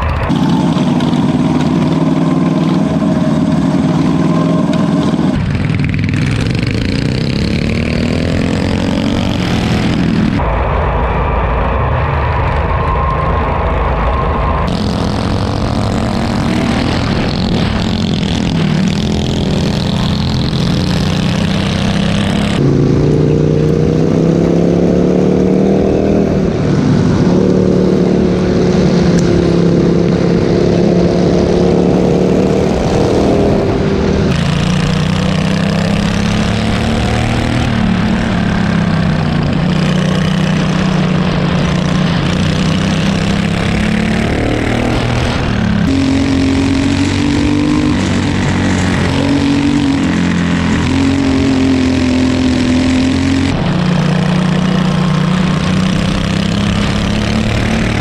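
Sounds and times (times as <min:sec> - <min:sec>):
lawnmower engines racing: 0:00.0 - 0:58.0.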